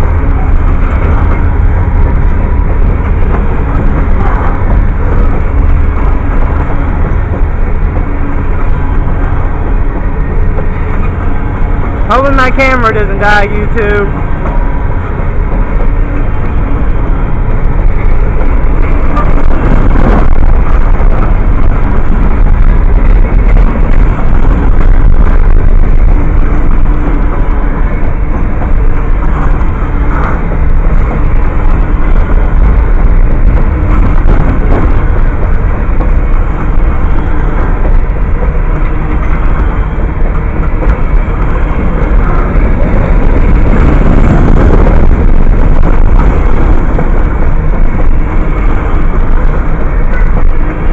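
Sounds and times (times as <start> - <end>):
freight train wheels clattering: 0.0 - 50.9.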